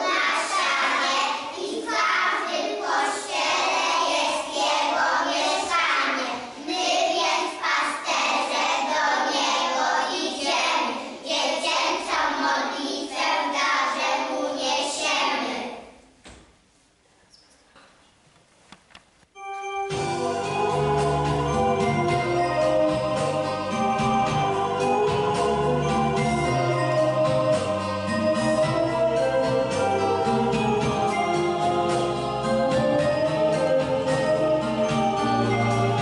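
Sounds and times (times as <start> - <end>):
young children singing: 0.0 - 16.0, 19.9 - 36.0.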